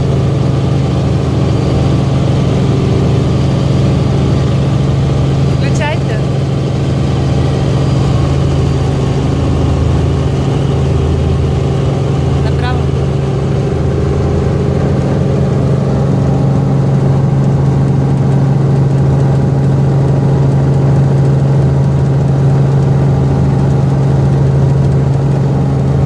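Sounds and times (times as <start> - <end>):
helicopter cabin drone: 0.0 - 26.0.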